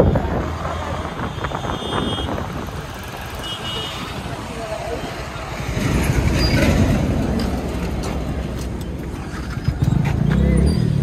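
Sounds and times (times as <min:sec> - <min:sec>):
road rumble: 0:00.0 - 0:11.0
wind: 0:00.0 - 0:11.0.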